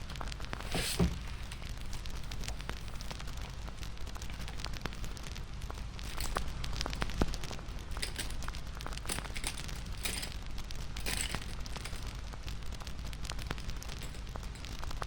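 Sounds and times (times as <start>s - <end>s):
fire hissing: 0.0s - 15.0s
hissing flare-ups: 0.0s - 15.0s
wood fire crackling: 0.0s - 15.0s.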